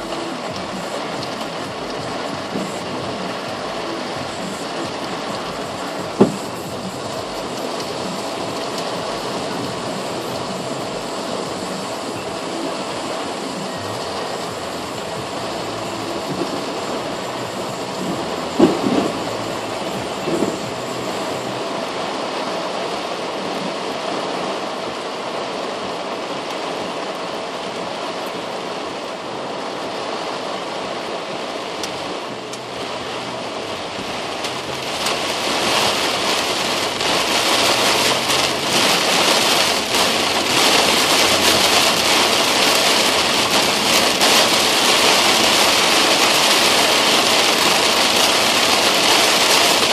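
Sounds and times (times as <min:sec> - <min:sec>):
rain on car windshield and roof: 0:00.0 - 0:49.9.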